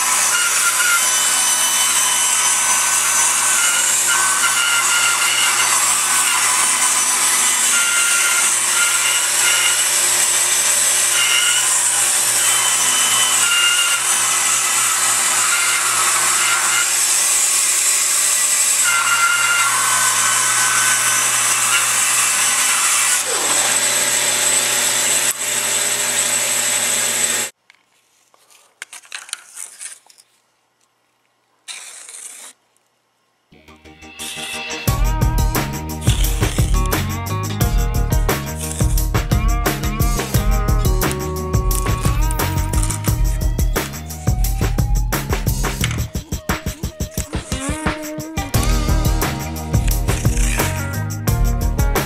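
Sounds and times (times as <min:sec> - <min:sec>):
bandsaw cutting wood: 0:00.0 - 0:27.5, 0:34.2 - 0:44.1, 0:46.7 - 0:52.0.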